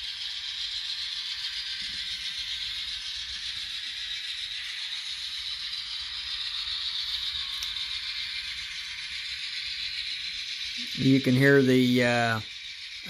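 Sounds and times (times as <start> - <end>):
thin digital diesel engine sound: 0.0 - 13.0.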